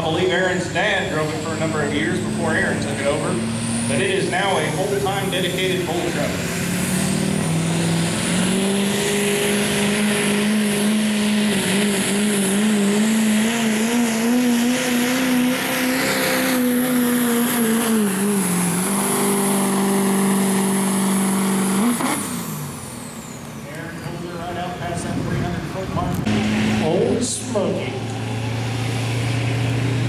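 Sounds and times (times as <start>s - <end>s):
pickup diesel engine full throttle: 0.0s - 30.0s.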